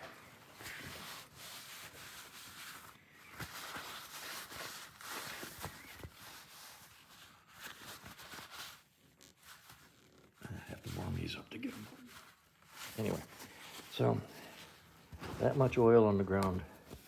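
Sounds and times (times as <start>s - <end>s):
paper towel rubbing on metal: 0.5s - 14.6s.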